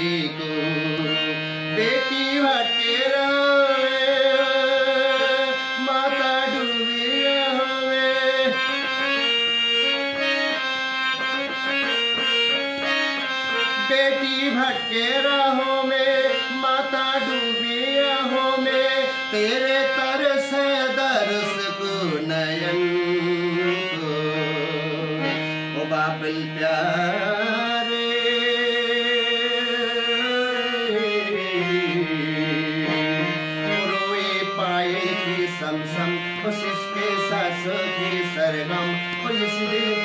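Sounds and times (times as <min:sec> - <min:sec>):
harmonium chords and melody: 0:00.0 - 0:40.0
man singing: 0:00.0 - 0:40.0.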